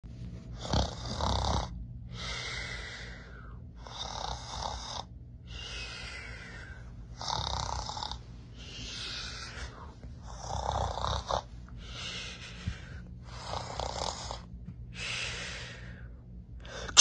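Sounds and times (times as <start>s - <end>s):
person snoring: 0.6s - 14.5s.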